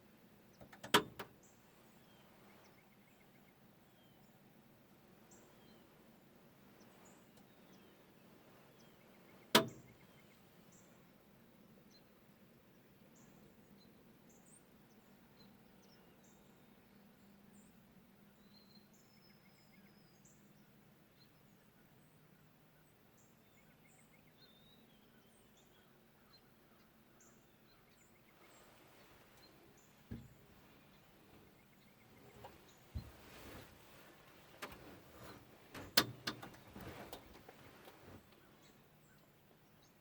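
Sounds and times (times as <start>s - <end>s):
birds chirping: 0.4s - 40.0s.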